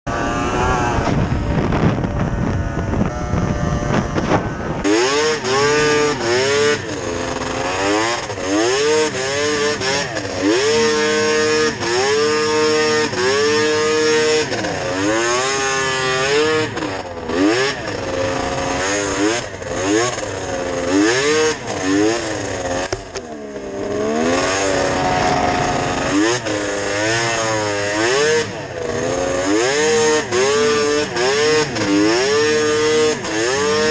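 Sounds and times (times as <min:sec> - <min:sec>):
snowmobile engine revving: 0:00.1 - 0:33.9.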